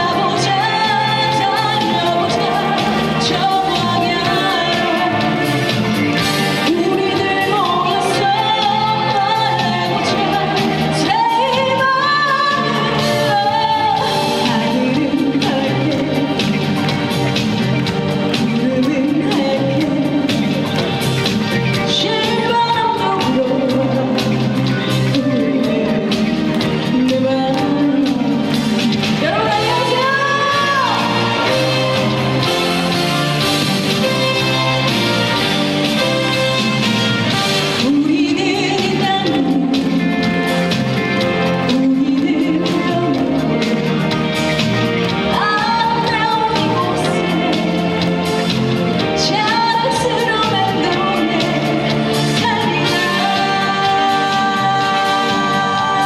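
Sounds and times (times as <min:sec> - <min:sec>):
woman singing: 0:00.0 - 0:33.6, 0:34.2 - 0:44.4, 0:45.0 - 0:56.0
amplified backing track: 0:00.0 - 0:56.0
instrumental accompaniment: 0:00.0 - 0:56.0.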